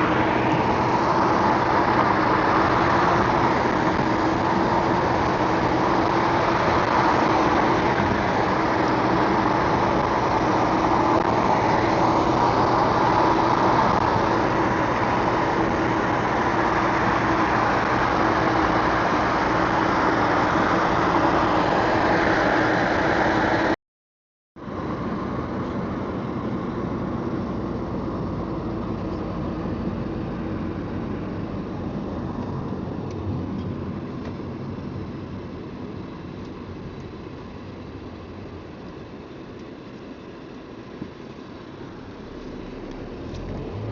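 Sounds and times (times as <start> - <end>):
road and engine noise in car: 0.0 - 23.8, 24.6 - 43.9.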